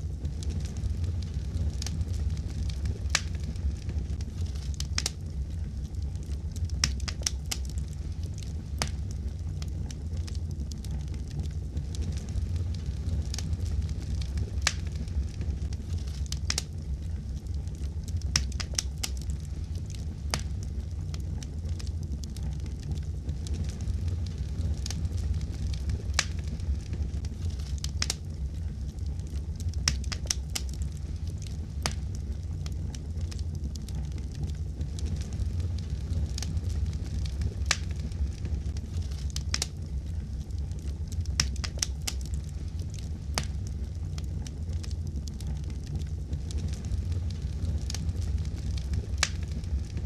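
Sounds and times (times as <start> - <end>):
fire pops and snaps: 0.0 - 50.0
low rumble of flames: 0.0 - 50.0.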